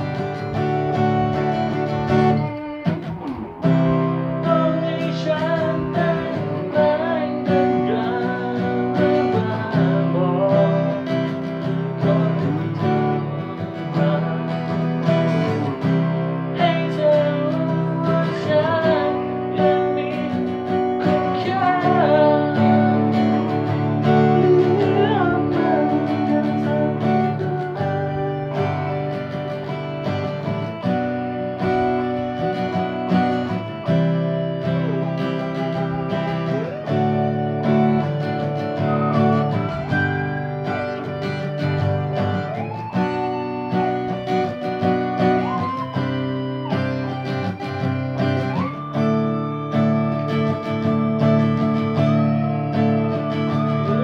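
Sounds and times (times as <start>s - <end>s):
guitar chords: 0.0s - 54.0s
lead guitar melody bending: 0.0s - 54.0s.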